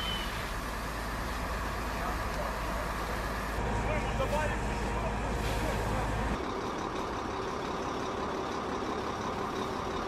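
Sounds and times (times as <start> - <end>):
steady outdoor background noise: 0.0 - 10.0
vehicle engine running: 0.3 - 10.0.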